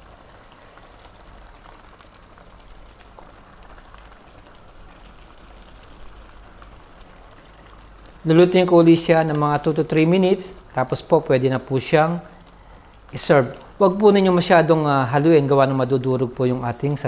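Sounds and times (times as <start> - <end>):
soup simmering with pops: 0.0 - 14.8.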